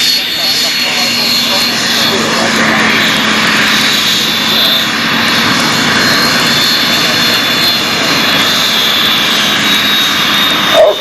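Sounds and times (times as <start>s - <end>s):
jet engine running: 0.0s - 11.0s.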